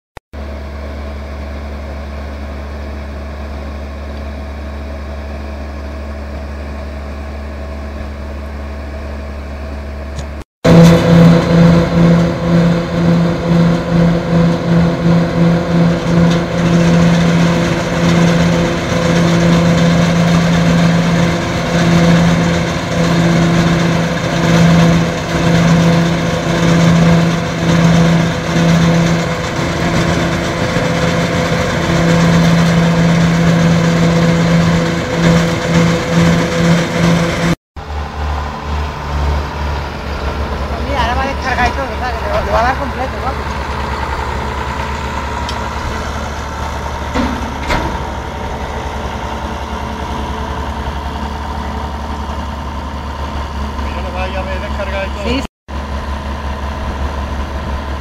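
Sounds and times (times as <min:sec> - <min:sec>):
harvester engine pulsing: 0:00.4 - 0:58.0.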